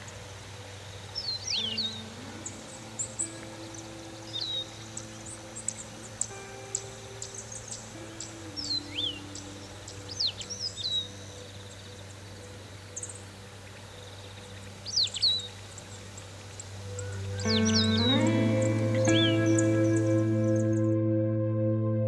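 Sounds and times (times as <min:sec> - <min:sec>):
faint low drone: 0:00.0 - 0:22.0
birds whistling and chirping: 0:01.2 - 0:13.2, 0:13.8 - 0:20.8.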